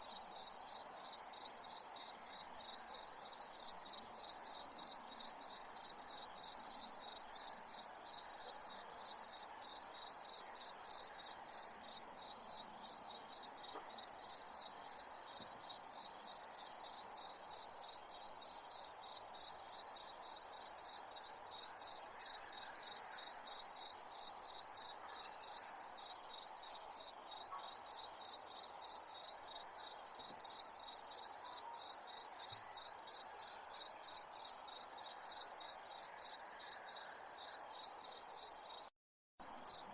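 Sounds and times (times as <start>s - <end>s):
crickets chirping: 0.0s - 38.8s, 39.5s - 39.9s.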